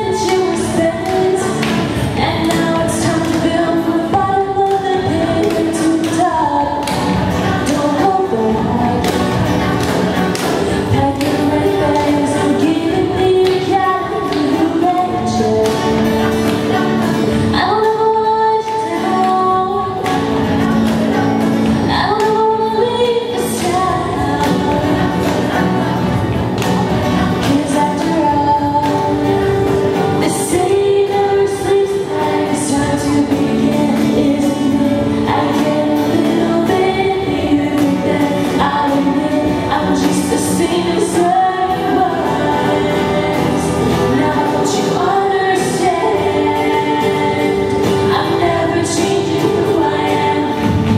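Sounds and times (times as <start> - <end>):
lead voice singing melody: 0.0 - 50.9.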